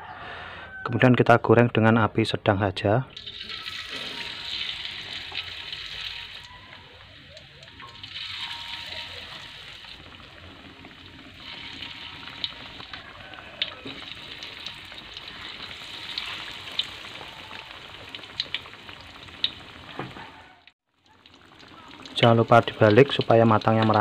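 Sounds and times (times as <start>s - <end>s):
deep-frying sizzle: 3.1s - 24.0s
oil popping and crackling: 3.1s - 24.0s.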